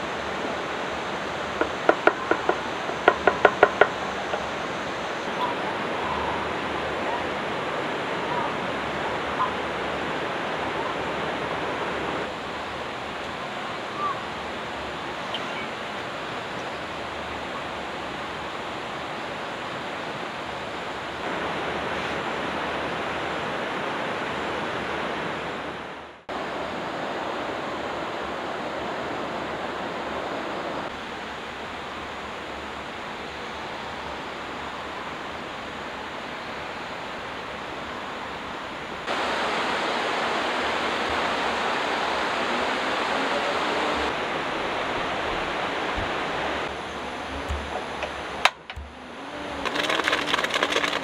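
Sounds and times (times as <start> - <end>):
water rushing: 0.0 - 51.0.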